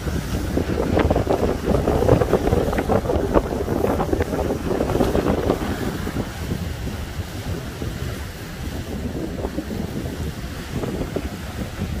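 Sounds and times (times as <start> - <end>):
waves breaking against seawall: 0.0 - 12.0
wind buffeting microphone: 0.0 - 12.0.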